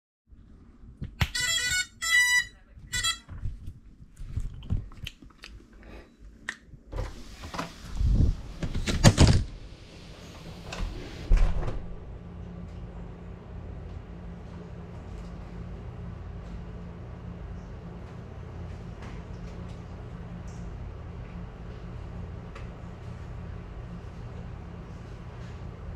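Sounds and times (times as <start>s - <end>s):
steady low hum: 0.3s - 25.9s.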